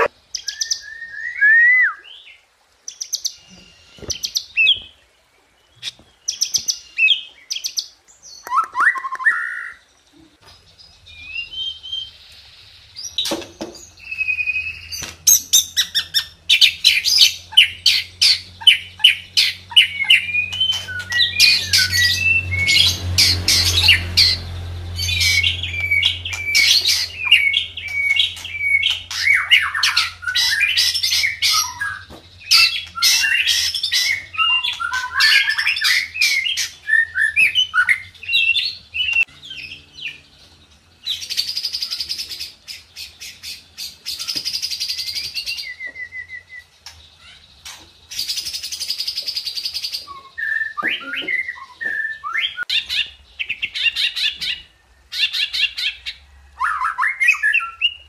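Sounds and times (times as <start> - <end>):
bird singing varied song: 0.0 - 58.0.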